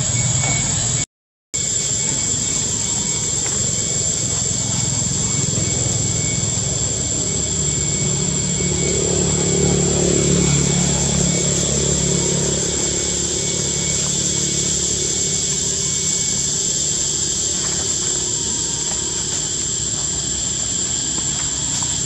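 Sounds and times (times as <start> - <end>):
engine running: 0.0 - 1.0, 1.6 - 22.0
high-pitched whine: 0.0 - 1.0, 1.6 - 22.0.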